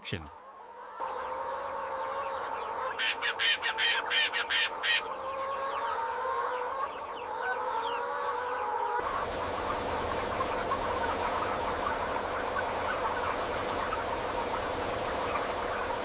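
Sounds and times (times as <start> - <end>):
hens clucking: 0.1 - 16.0.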